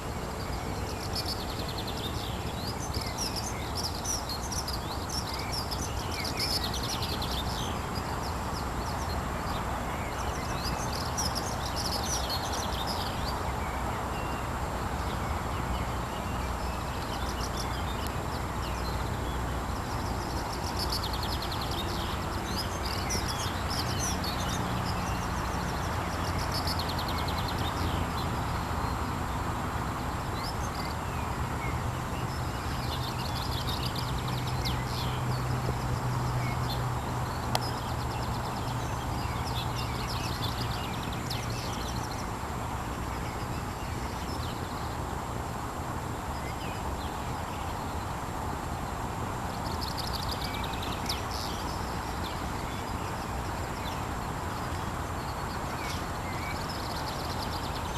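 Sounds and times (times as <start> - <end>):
outdoor background noise: 0.0 - 57.9
small birds trilling: 0.0 - 57.9.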